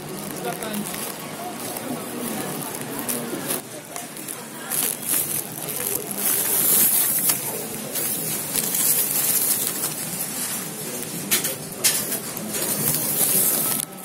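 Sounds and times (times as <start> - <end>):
restaurant kitchen and counter din: 0.0 - 14.0.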